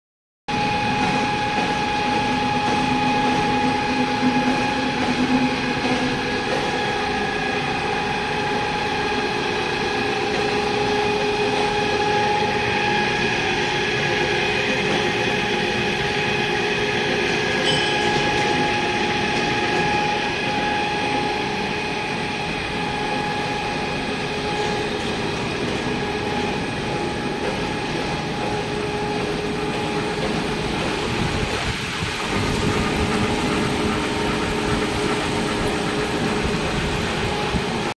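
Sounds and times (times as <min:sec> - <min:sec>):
polishing machine whirring: 0:00.6 - 0:37.9.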